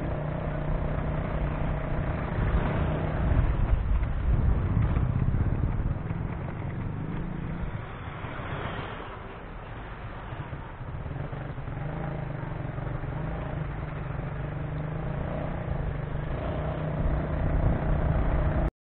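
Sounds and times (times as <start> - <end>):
city traffic rumble: 0.0 - 18.7.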